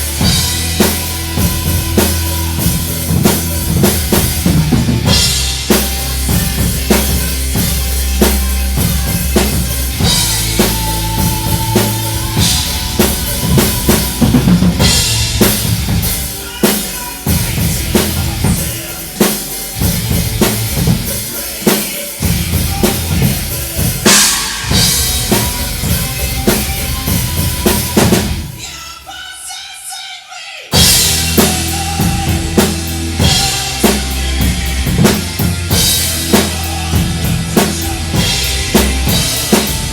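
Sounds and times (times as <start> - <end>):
steady bass: 0.0 - 21.6, 22.2 - 28.6, 30.8 - 39.9
loud drum kit: 0.0 - 29.3, 30.7 - 39.9
heavy rock music: 0.0 - 29.6, 30.7 - 39.9.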